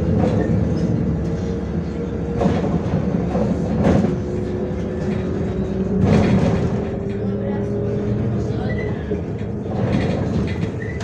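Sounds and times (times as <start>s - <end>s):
bus body rattling and knocking: 0.0s - 11.0s
bus engine drone and whine: 0.0s - 11.0s.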